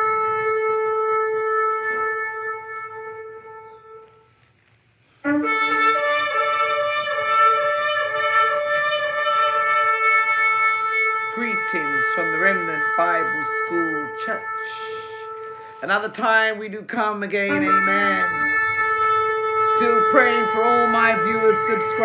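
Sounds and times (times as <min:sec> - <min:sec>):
music with held chords: 0:00.0 - 0:04.4, 0:05.2 - 0:15.8, 0:17.5 - 0:22.0
shofar blast: 0:00.0 - 0:04.4, 0:05.2 - 0:16.1, 0:17.5 - 0:22.0.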